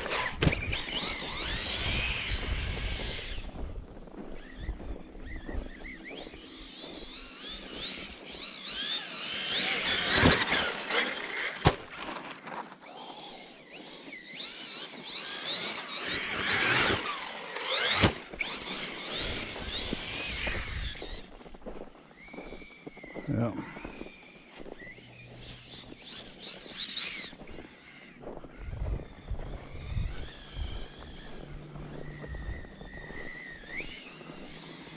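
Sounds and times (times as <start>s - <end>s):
electric motor whining: 0.0s - 21.4s, 22.1s - 34.9s.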